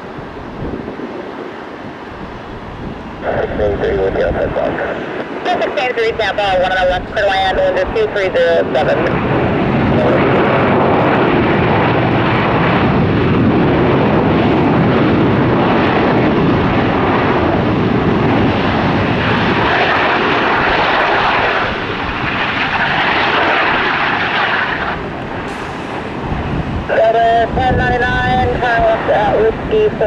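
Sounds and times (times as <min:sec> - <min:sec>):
jet airliner passing: 0:00.0 - 0:30.0.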